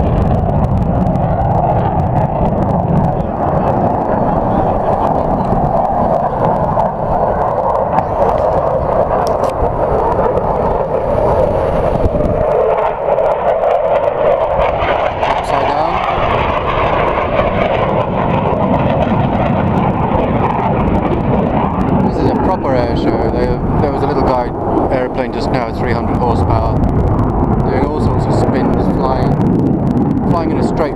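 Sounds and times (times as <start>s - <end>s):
jet engine roar: 0.0s - 30.9s.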